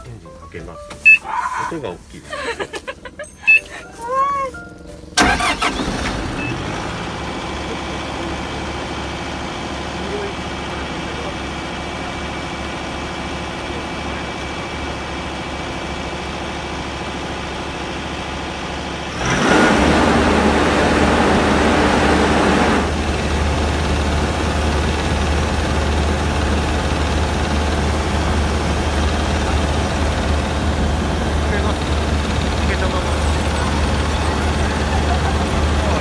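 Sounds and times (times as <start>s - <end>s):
combine harvester engine running: 0.0s - 36.0s.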